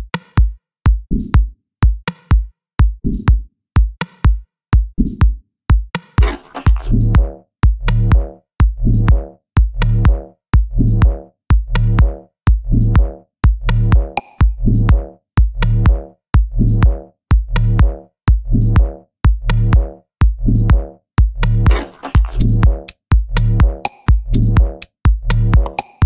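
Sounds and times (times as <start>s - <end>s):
electronic music with drum-machine beat: 0.0s - 26.0s.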